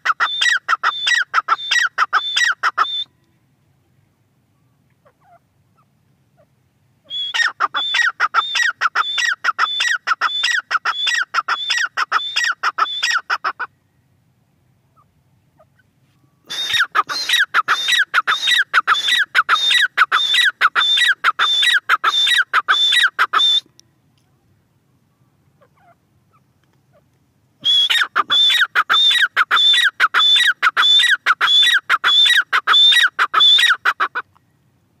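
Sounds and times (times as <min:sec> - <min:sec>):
francolin calling: 0:00.0 - 0:03.4, 0:04.5 - 0:14.0, 0:14.8 - 0:34.6.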